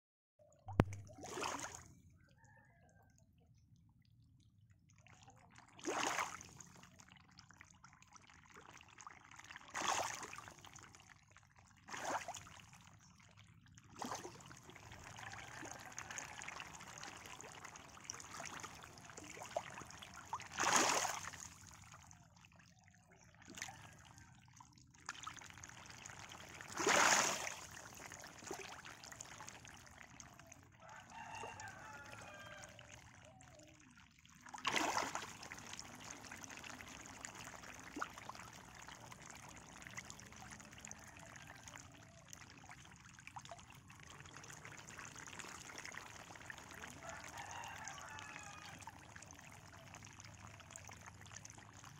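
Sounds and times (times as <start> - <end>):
faint water trickle: 0.4 - 51.9
water splashing in a pond: 0.4 - 51.9.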